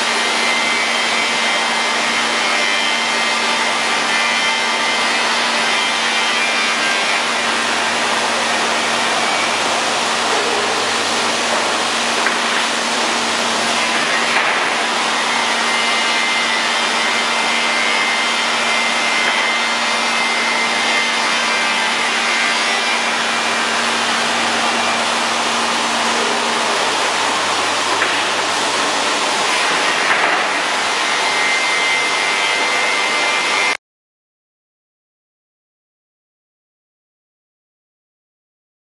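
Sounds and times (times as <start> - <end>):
sanding machine grinding: 0.0 - 33.8.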